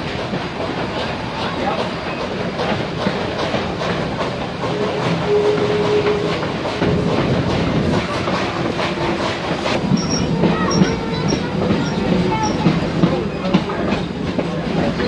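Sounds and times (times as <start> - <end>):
train wheels clattering: 0.0 - 15.0.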